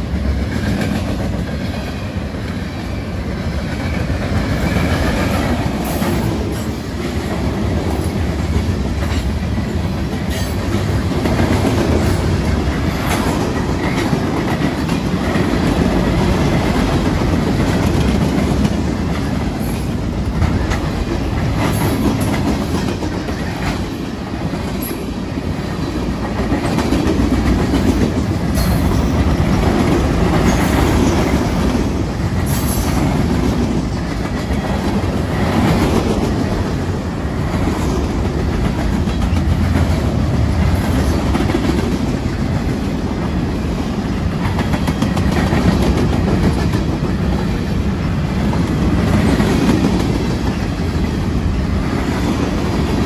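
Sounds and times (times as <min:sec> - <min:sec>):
steel wheels on rails: 0:00.0 - 0:53.0.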